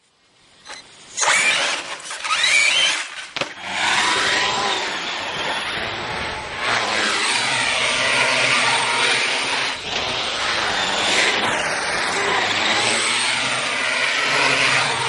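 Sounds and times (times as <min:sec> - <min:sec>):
electric motor whining: 0:01.2 - 0:15.0.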